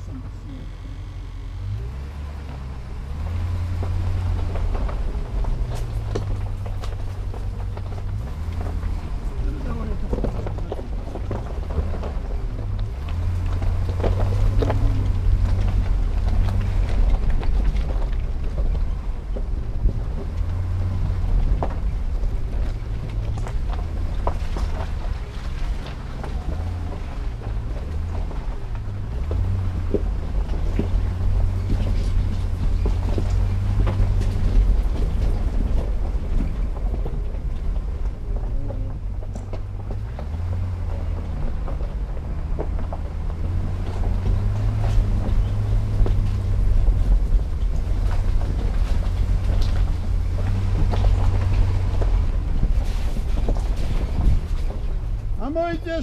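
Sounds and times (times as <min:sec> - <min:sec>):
car engine droning: 0:00.0 - 0:56.0
tyres crunching on gravel: 0:00.0 - 0:56.0.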